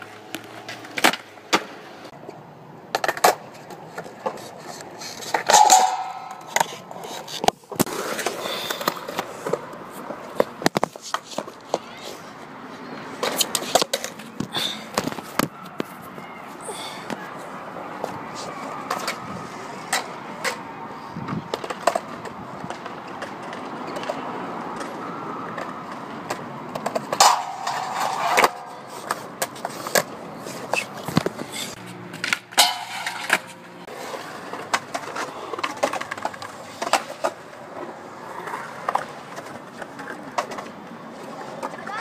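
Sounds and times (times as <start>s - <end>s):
skateboard clacking on ground: 0.0s - 42.0s
skateboard wheels rolling on concrete: 0.0s - 42.0s.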